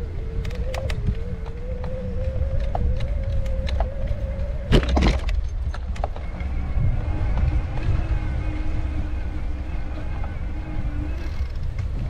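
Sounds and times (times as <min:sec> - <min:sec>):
motor running with low rumble: 0:00.0 - 0:12.0.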